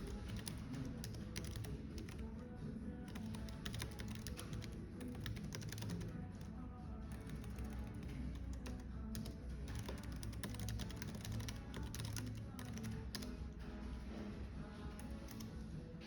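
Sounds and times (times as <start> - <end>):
fast typing on a keyboard: 0.0 - 2.4, 3.0 - 14.2, 14.8 - 15.7
soft background music: 0.0 - 16.0.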